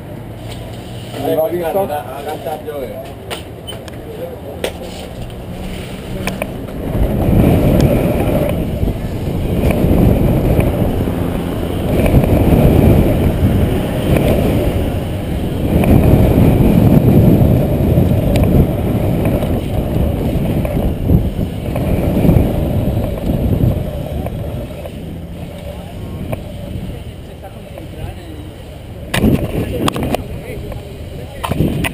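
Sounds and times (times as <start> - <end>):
bike tyres rumbling on dirt: 0.4 - 31.9
wind rushing over microphone: 1.2 - 31.9.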